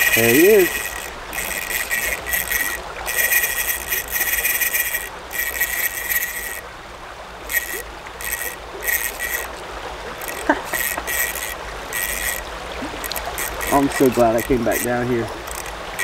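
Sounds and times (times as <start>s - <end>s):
fishing reel buzzing: 0.0s - 6.7s, 7.3s - 16.0s
creek water running: 0.0s - 16.0s.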